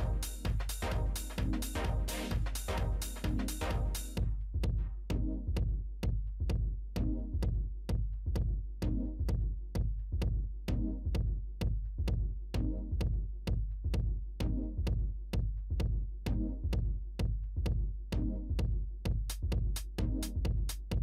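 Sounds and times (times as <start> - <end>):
electronic music with drum-machine beat: 0.0 - 21.0.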